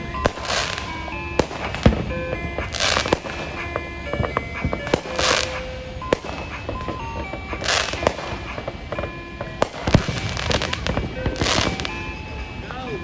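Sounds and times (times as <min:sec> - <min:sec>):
fireworks bangs: 0:00.0 - 0:13.0
fireworks crackling bursts: 0:00.0 - 0:13.0.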